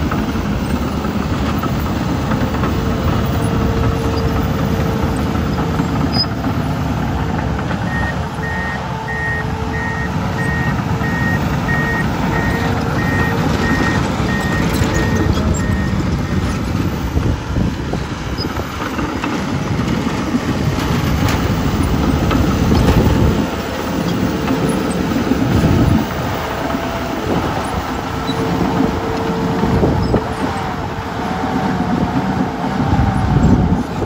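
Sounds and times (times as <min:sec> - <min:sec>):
diesel engine running hard: 0:00.0 - 0:34.0
steel tracks clanking: 0:00.0 - 0:34.0.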